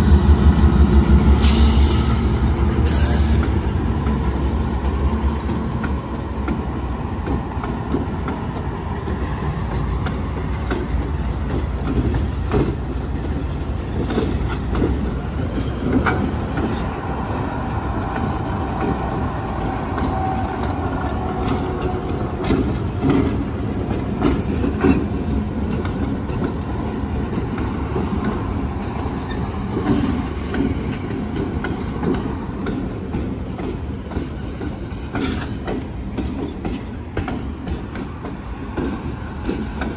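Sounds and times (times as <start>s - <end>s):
train rumbling past: 0.0s - 39.9s
wheels clicking over rail joints: 3.3s - 39.9s.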